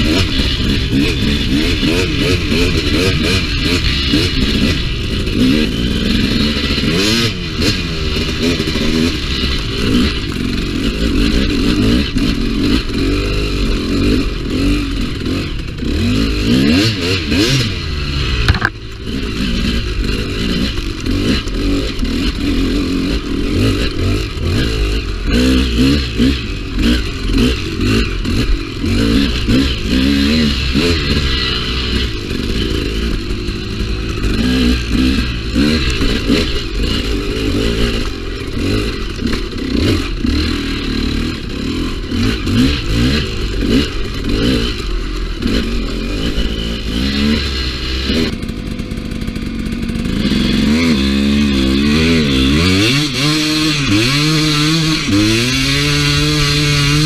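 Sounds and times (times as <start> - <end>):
bike clattering and scraping: 0.0 - 57.0
dirt bike engine revving: 0.0 - 57.0.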